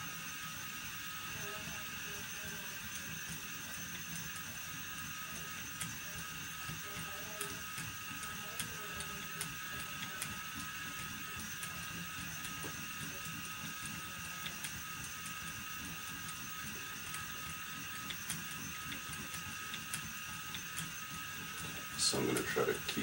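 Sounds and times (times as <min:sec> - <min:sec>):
spinning wheel motor whine: 0:00.0 - 0:23.0.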